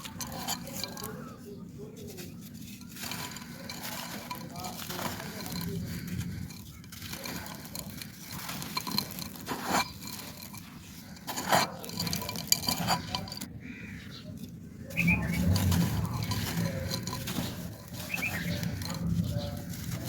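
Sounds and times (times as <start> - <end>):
clay pot shards crunching: 0.0 - 20.0.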